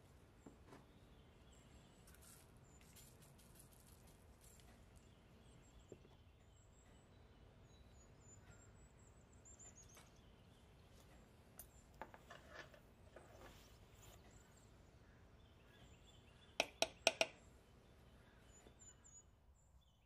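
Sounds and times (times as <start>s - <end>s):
faint high bird chirps: 0.6s - 20.0s.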